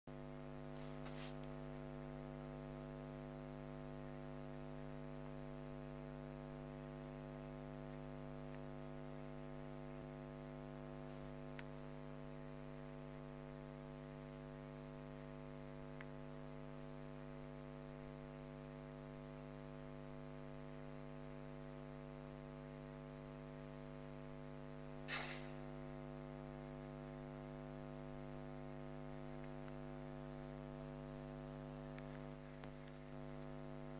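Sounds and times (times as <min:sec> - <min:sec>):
electrical hum: 0:00.1 - 0:33.9.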